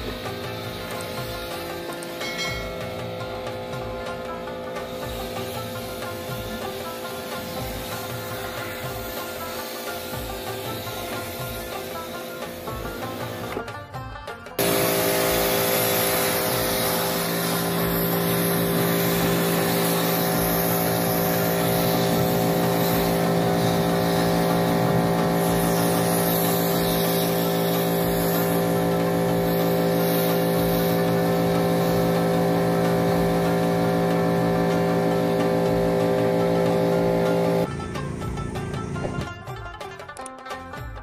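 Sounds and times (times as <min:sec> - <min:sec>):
high-pressure water jet hissing: 0:00.0 - 0:13.6, 0:14.6 - 0:37.7
pressure washer pump humming: 0:00.0 - 0:13.6, 0:14.6 - 0:39.2.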